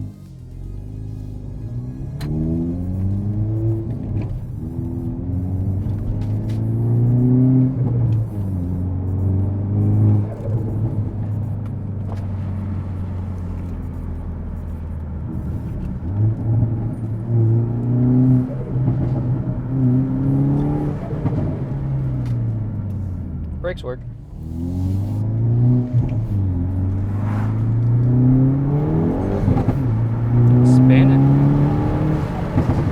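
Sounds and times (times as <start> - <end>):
car engine accelerating hard: 0.0 - 32.9.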